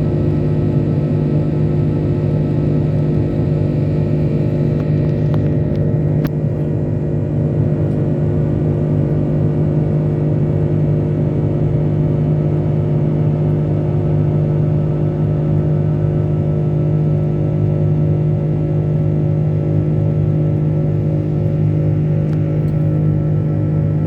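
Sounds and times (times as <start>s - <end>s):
jet engine drone in cabin: 0.0s - 24.0s.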